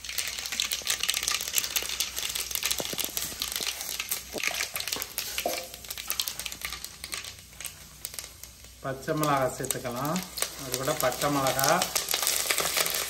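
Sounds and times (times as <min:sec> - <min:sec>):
faint oil sizzle: 0:00.0 - 0:13.0
seeds popping in hot oil: 0:00.0 - 0:13.0.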